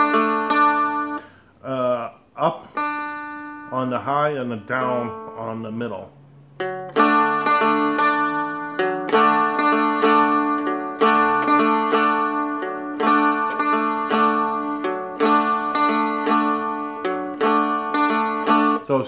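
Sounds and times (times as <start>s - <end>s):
dulcimer flatpicked: 0.0s - 1.4s, 2.5s - 5.9s, 6.6s - 19.0s.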